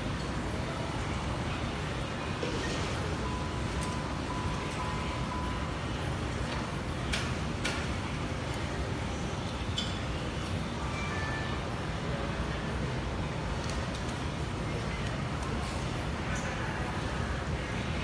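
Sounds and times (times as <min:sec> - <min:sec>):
public place background hum: 0:00.0 - 0:18.0.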